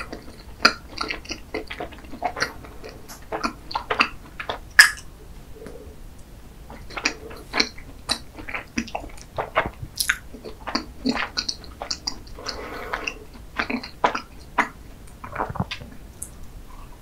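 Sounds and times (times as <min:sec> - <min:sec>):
close-miked chewing: 0:00.0 - 0:17.0.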